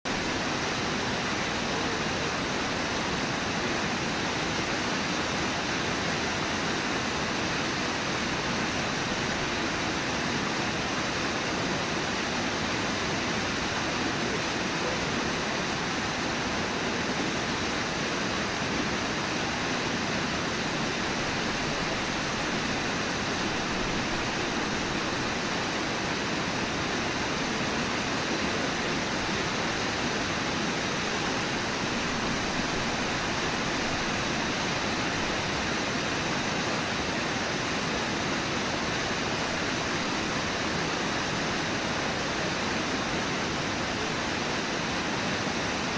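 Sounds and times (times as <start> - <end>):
waterfall rushing: 0.1 - 45.9.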